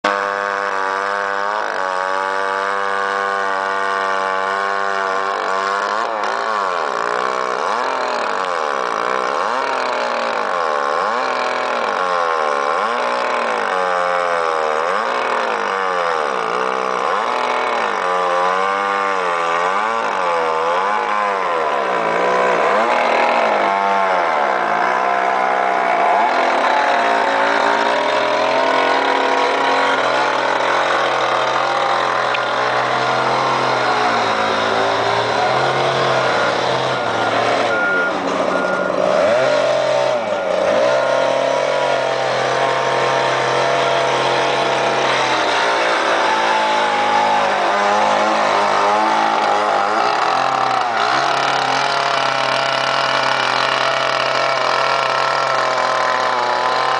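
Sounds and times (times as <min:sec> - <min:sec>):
chainsaw cutting concrete: 0:00.0 - 0:56.9.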